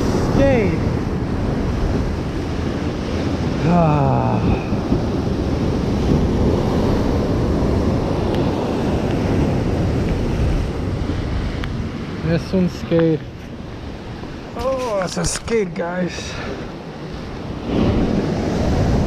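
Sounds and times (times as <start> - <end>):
surf breaking over rocks: 0.0 - 19.0
wind buffeting microphone: 0.0 - 19.0.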